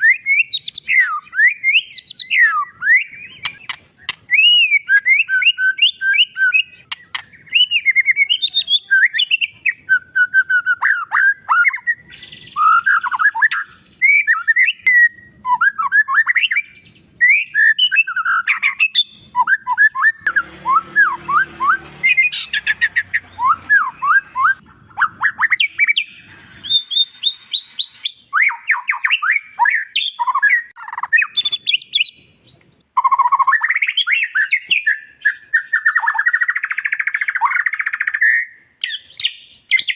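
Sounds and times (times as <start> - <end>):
bird singing whistled song: 0.0 - 39.9.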